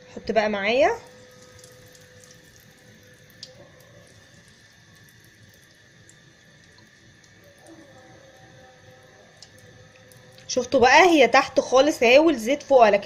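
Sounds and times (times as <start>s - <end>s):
oil sizzling with crackles: 0.0s - 13.0s.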